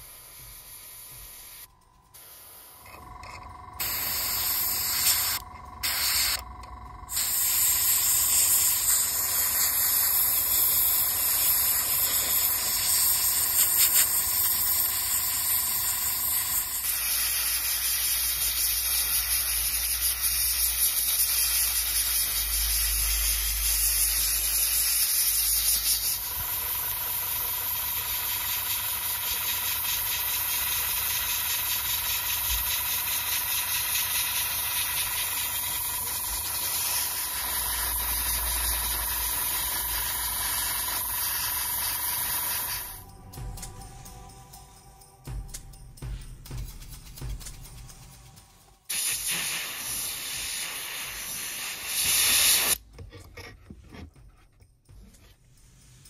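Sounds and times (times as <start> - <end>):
airbrush spraying paint: 0.0 - 6.5, 7.1 - 52.8, 55.5 - 56.0.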